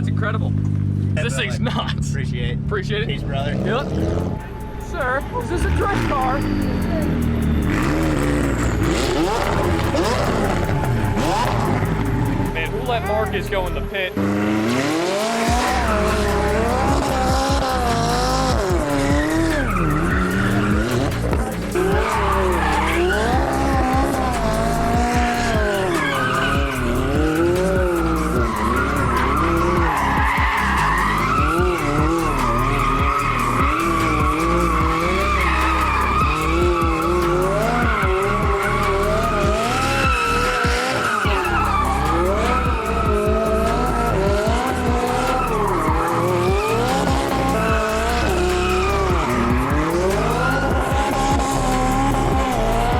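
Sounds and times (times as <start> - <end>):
car engine revving: 0.0 - 52.9
tyres squealing: 3.1 - 52.9.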